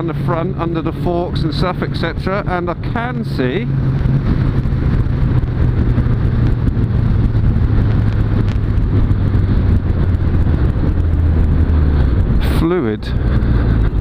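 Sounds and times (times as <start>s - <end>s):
motorcycle engine cruising: 0.0s - 14.0s
wind rush: 0.0s - 14.0s.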